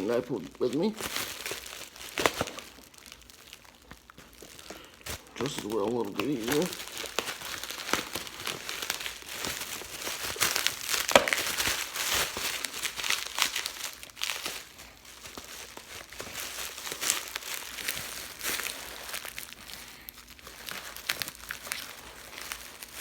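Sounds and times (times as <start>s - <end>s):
bubble wrap crinkling: 0.0s - 23.0s.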